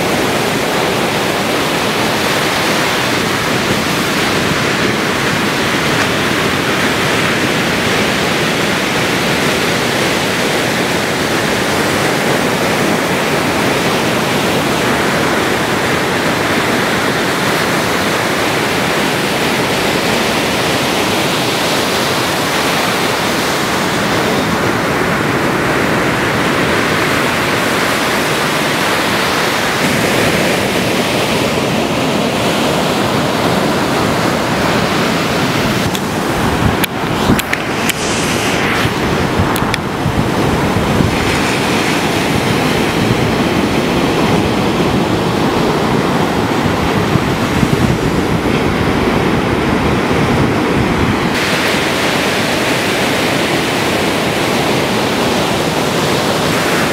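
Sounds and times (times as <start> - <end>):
ocean surf rushing: 0.0 - 56.9.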